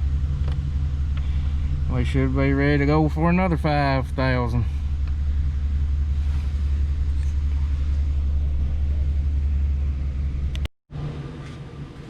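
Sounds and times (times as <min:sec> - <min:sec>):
truck engine idling: 0:00.0 - 0:10.7
low hum: 0:00.0 - 0:12.0.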